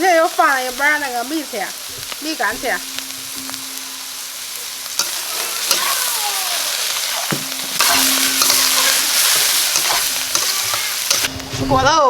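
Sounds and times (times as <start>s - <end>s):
food sizzling in a pan: 0.0s - 12.0s
spatula scraping a pan: 0.6s - 11.8s
spatula knocking: 1.8s - 11.5s.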